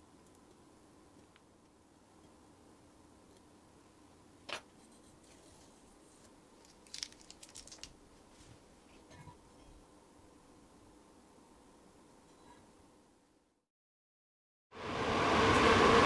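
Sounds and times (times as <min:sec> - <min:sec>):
faint steady hum: 0:00.0 - 0:13.6.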